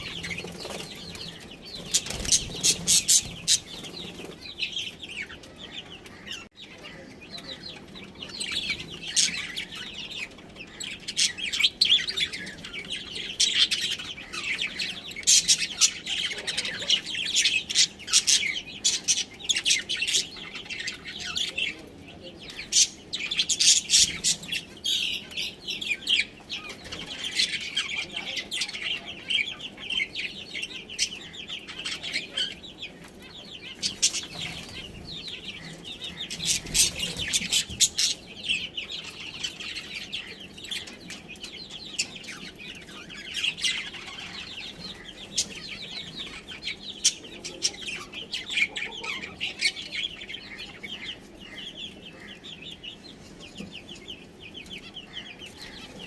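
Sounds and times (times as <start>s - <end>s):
budgerigars chirping: 0.0s - 56.0s.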